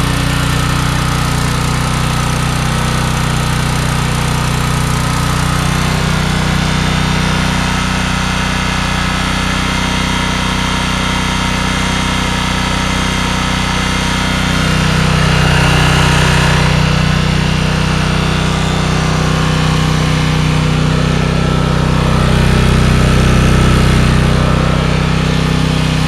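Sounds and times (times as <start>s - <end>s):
small gasoline engine idling: 0.0s - 26.0s.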